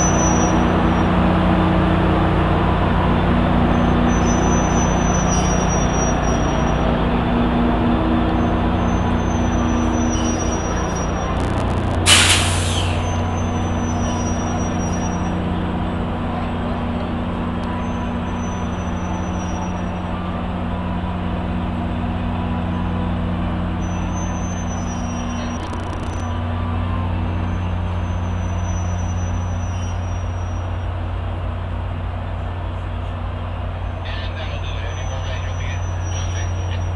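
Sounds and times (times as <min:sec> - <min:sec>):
diesel locomotive idling: 0:00.0 - 0:36.9.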